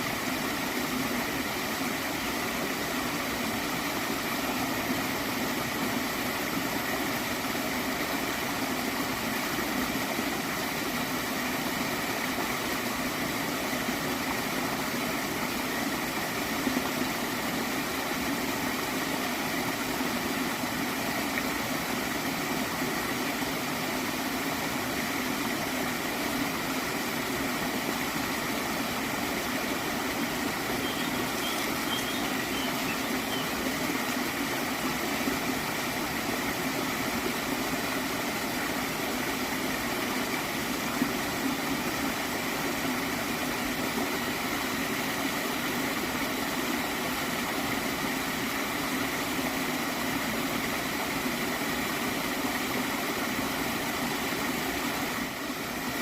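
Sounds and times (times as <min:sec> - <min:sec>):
small stream gurgling: 0:00.0 - 0:56.0.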